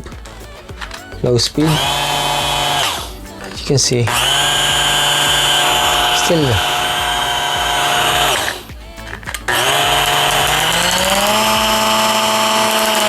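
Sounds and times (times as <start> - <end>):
hand blender motor whining: 0.8 - 13.0.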